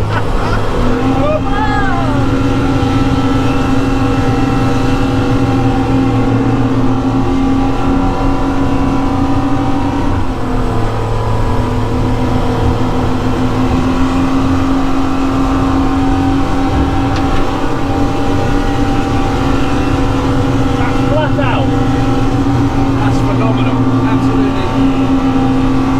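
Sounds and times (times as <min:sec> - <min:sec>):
outboard motors droning: 0:00.0 - 0:25.9.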